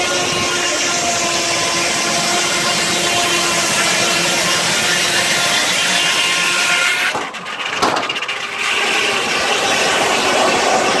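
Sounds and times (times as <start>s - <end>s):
saw blade cutting through log: 0.0s - 11.0s.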